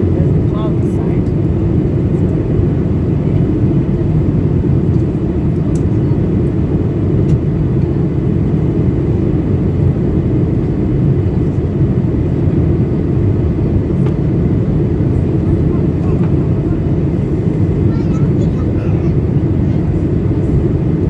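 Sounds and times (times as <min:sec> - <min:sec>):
jet engines humming: 0:00.0 - 0:21.0.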